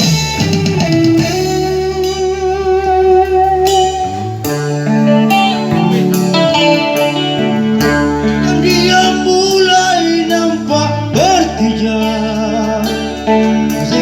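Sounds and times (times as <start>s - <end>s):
band music with guitars: 0.0s - 14.0s
bass line: 0.0s - 14.0s
wavering melodic lead line: 0.0s - 14.0s.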